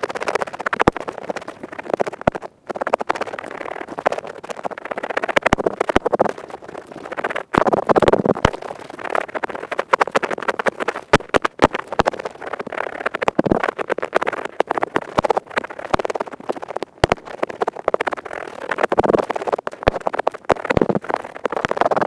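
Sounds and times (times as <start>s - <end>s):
earpick scratching: 0.0s - 22.0s
sharp clicks: 0.0s - 22.0s.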